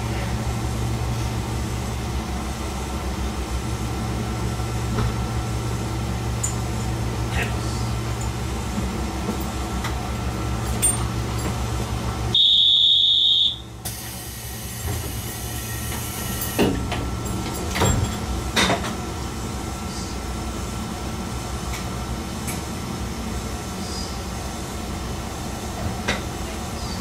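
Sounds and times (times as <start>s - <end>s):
railcar engine and rail drone: 0.0s - 27.0s.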